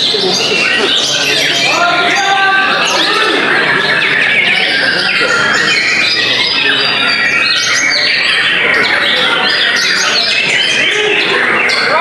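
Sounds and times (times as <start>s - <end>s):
chorus of birds singing: 0.0s - 12.0s.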